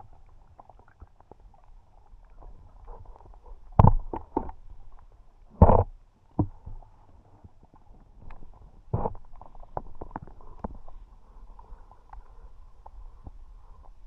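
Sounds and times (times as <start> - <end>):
underwater crackle of clicks: 0.0 - 6.8, 8.1 - 14.0.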